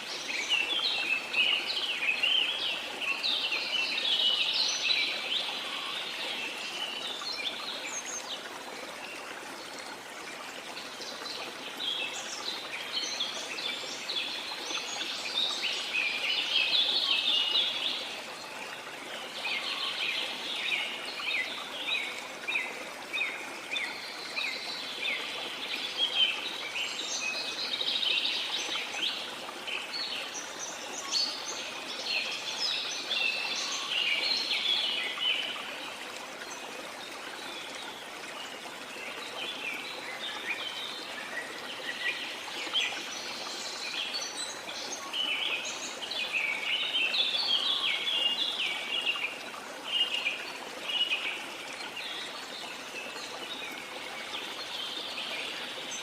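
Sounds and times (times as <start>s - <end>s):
running water hiss: 0.0s - 56.0s.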